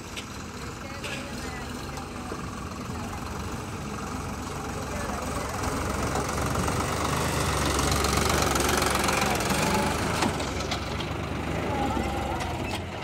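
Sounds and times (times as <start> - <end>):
tractor diesel engine passing: 0.0 - 13.0.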